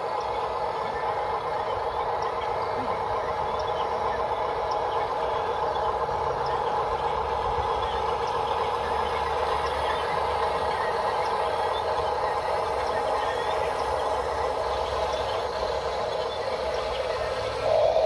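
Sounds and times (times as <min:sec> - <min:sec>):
model machine engine-like hum: 0:00.0 - 0:18.0.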